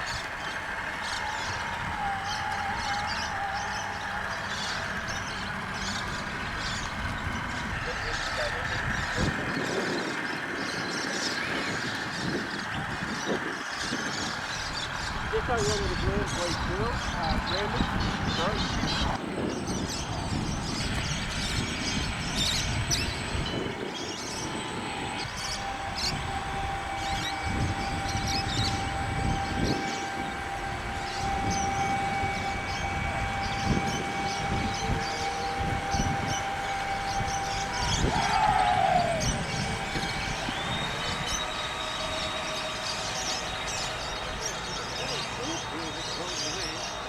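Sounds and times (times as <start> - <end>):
model boat motor whine: 0.0 - 47.0.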